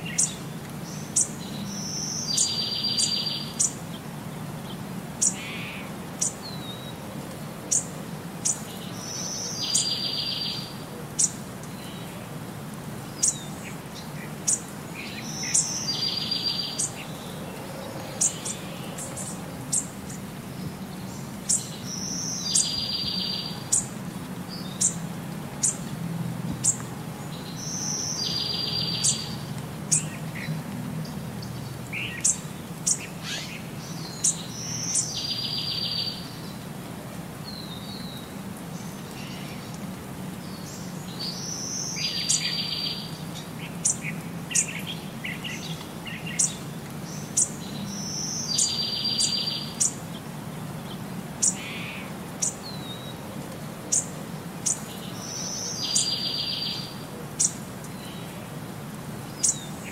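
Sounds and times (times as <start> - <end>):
birds chirping: 0.0 - 12.3, 13.0 - 36.6, 37.4 - 53.2, 53.9 - 58.4, 59.2 - 59.9.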